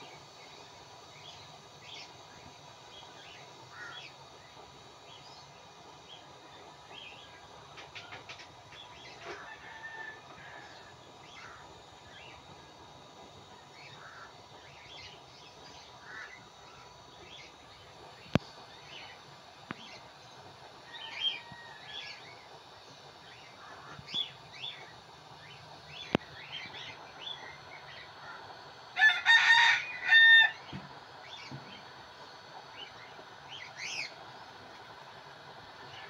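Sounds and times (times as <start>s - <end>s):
birds chirping: 0.0s - 9.8s, 10.4s - 34.6s
faint steady hum: 0.0s - 36.0s.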